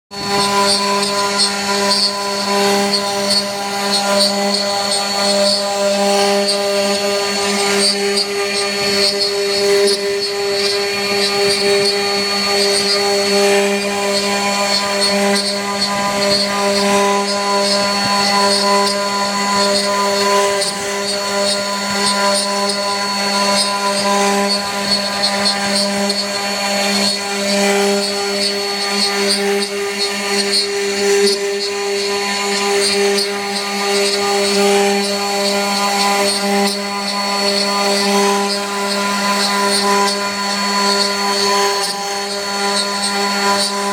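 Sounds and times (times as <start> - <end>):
router spindle carving wood: 0.1 - 43.9.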